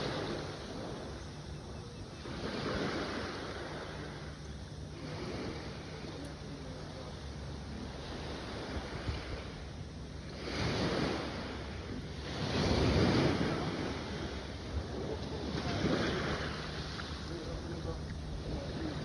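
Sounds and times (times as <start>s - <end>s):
low hum: 0.0s - 19.0s
sea waves washing ashore: 0.0s - 19.0s.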